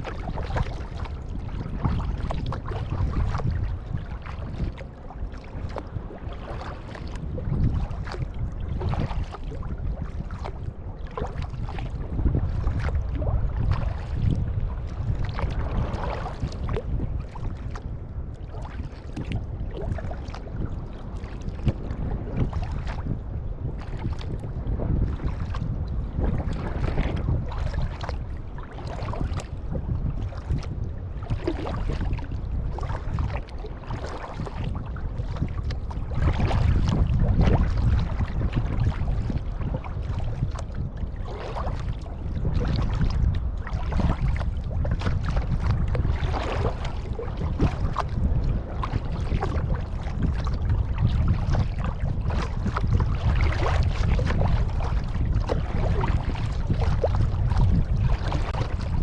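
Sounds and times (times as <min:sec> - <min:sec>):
paddle splashing in water: 0:00.0 - 0:59.0
wind rumble on microphone: 0:00.0 - 0:59.0.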